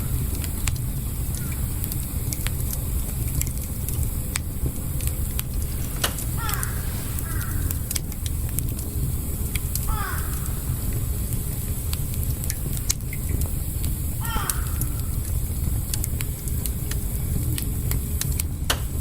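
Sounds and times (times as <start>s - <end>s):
campfire crackling and popping: 0.0s - 19.0s
low fire rumble: 0.0s - 19.0s.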